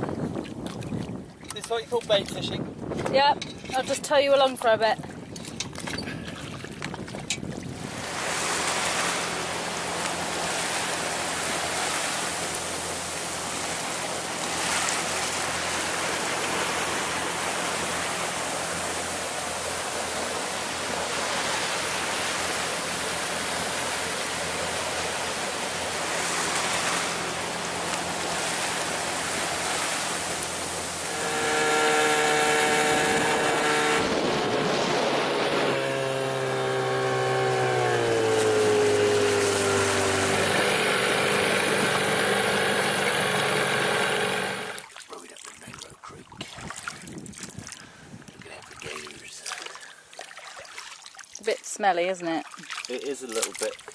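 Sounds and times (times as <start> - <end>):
outboard motor running: 0.0 - 45.0
wind and water rushing: 0.0 - 53.9.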